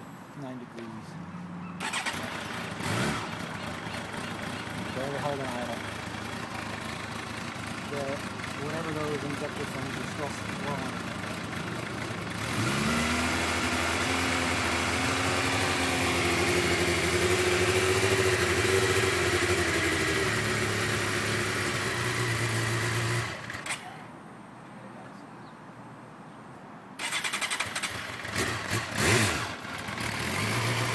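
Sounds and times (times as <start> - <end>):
motorcycle engine running rough: 2.1 - 23.8, 27.8 - 30.9.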